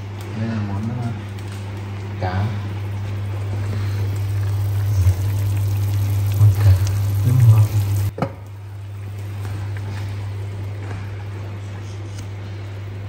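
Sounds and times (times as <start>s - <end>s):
steady low hum: 0.0s - 13.0s
food bubbling and sizzling: 1.1s - 11.6s.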